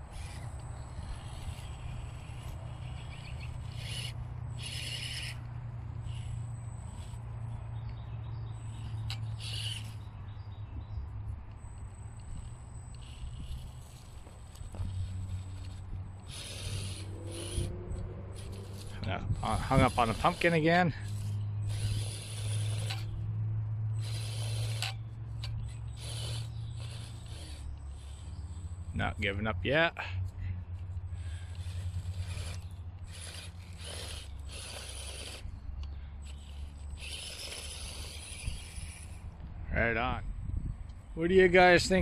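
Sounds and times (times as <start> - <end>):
toy car motor whirring: 0.0 - 10.9, 11.5 - 29.4, 30.2 - 39.4
steady low hum: 0.0 - 42.0.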